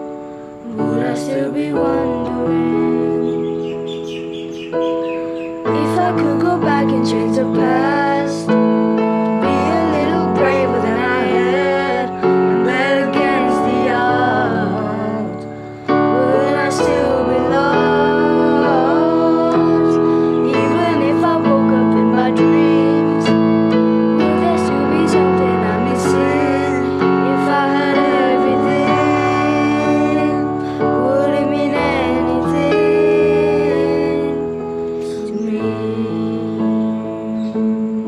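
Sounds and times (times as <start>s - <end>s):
piano chords: 0.0s - 38.0s
wavering melody line: 0.8s - 34.5s.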